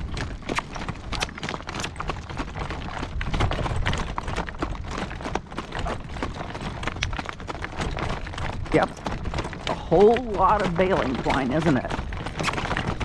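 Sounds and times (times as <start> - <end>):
cart rumbling: 0.0 - 13.0
horse hooves clip-clopping: 0.0 - 13.0.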